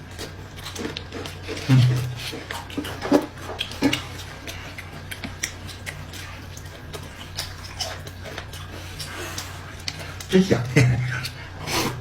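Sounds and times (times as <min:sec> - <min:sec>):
person eating noodles: 0:00.0 - 0:12.0.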